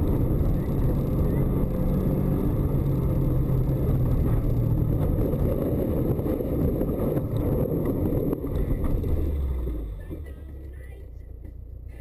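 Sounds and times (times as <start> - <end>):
car engine: 0.0 - 12.0.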